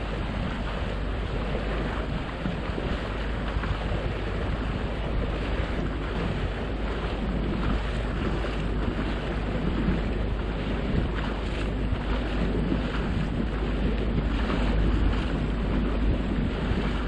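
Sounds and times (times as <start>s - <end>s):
water rushing past boat: 0.0s - 17.0s
wind buffeting microphone: 0.0s - 17.0s.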